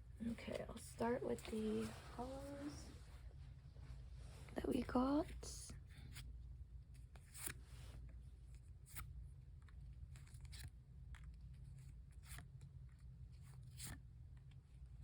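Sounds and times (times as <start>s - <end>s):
steady low hum: 0.0s - 15.0s
rustling of trading cards: 0.4s - 14.6s.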